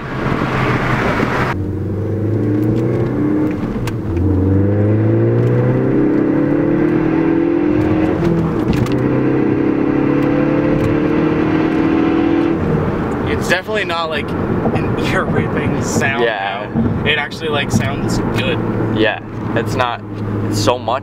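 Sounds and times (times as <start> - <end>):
car engine accelerating through gears: 0.0 - 21.0.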